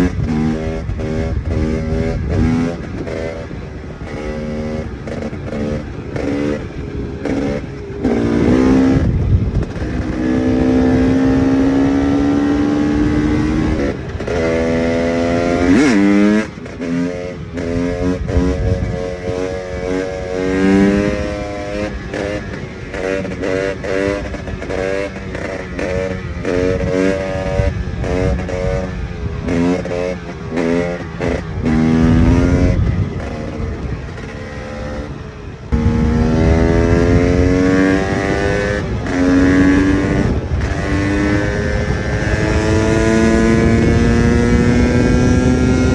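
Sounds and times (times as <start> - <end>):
two-stroke motorcycle engine revving: 0.0 - 45.9.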